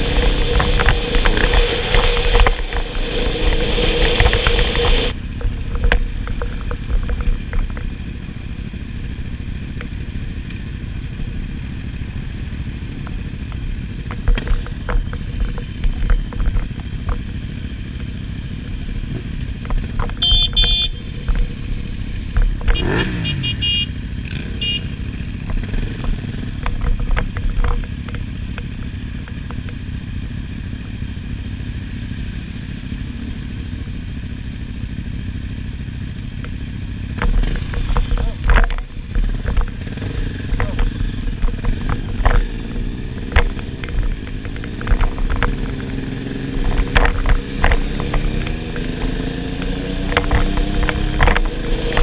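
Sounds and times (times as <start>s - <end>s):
motorcycle engines idling: 0.0s - 52.0s.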